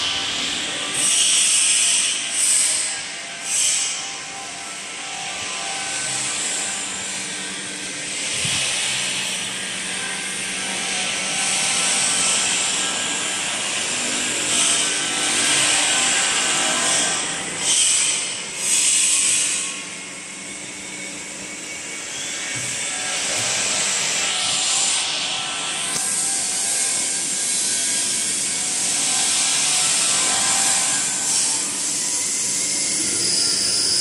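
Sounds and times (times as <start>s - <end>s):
machinery hum with hiss: 0.0s - 34.0s.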